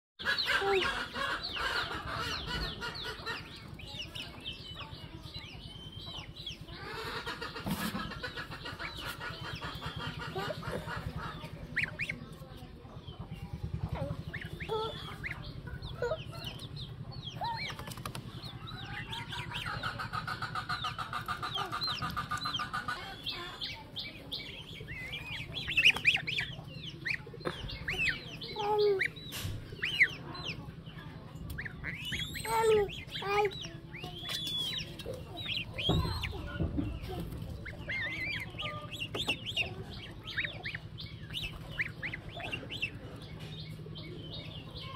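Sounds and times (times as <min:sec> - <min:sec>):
chickens clucking: 0:00.2 - 0:44.9
chicks peeping: 0:00.2 - 0:44.9
steady low hum: 0:00.2 - 0:44.9.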